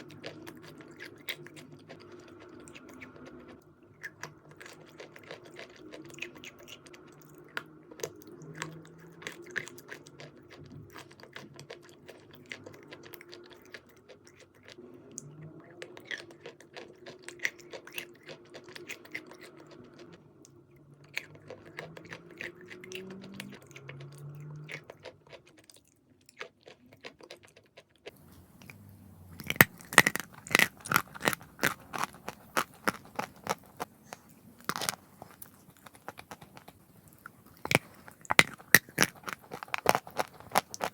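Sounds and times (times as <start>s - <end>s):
chalk crunching when chewed: 0.0s - 14.8s, 21.1s - 40.9s.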